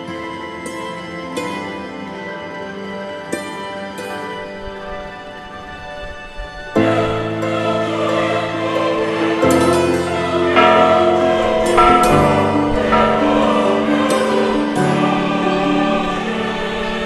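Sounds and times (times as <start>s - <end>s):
choir-like background music: 0.0s - 17.0s.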